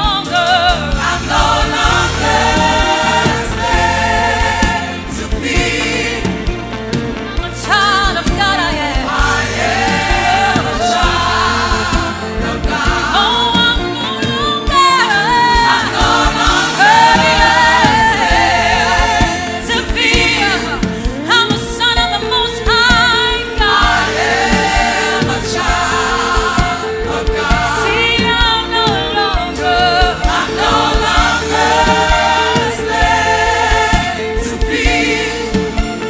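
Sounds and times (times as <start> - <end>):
band accompaniment: 0.0 - 36.0
choir singing gospel song: 0.0 - 36.0.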